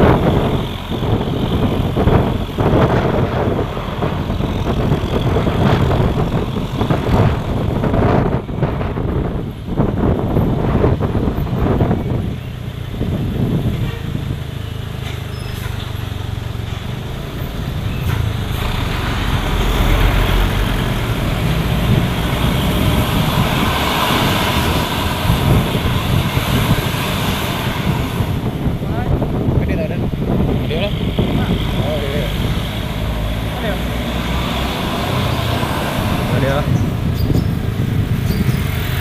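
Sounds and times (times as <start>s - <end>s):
bus diesel engine running: 0.0s - 39.0s
road and tyre noise: 0.0s - 39.0s.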